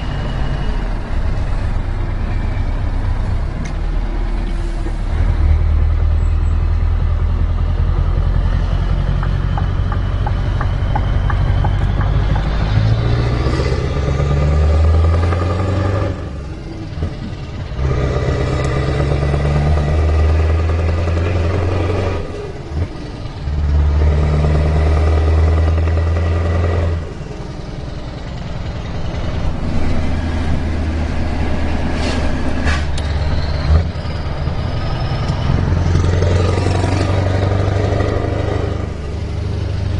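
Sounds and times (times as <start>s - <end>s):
diesel truck engine pulling hard: 0.0s - 39.9s.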